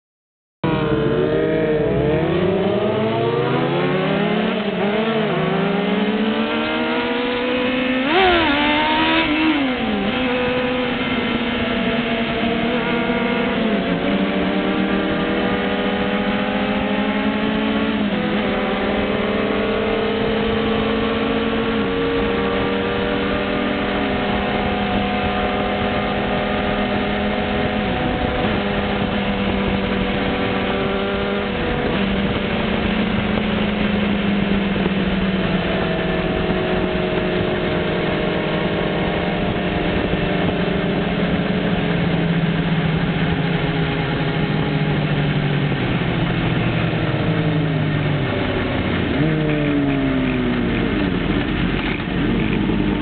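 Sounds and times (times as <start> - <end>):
motorcycle engine revving: 0.6 - 53.0.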